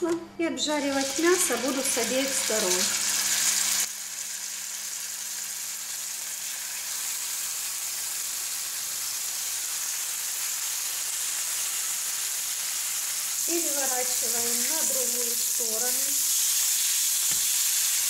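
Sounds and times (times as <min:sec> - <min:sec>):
meat sizzling in oil: 0:00.9 - 0:18.0.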